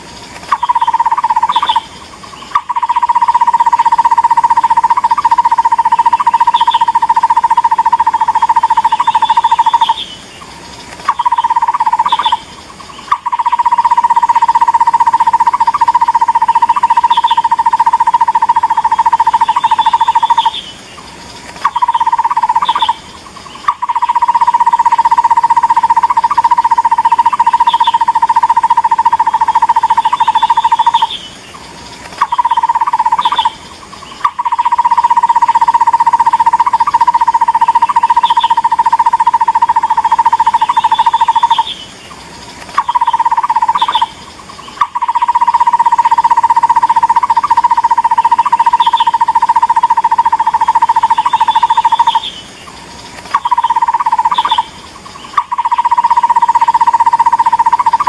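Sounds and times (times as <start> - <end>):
barbet calling hollow notes: 0.5 - 1.9, 2.5 - 10.1, 11.1 - 12.5, 13.1 - 20.6, 21.6 - 23.0, 23.6 - 31.2, 32.2 - 33.6, 34.2 - 41.7, 42.8 - 44.2, 44.8 - 52.3, 53.3 - 54.7, 55.3 - 58.0.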